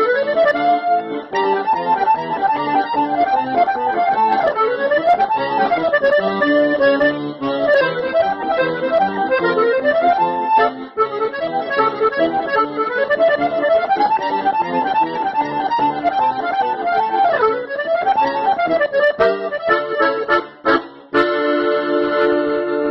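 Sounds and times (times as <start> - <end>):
instrumental music: 0.0 - 22.9.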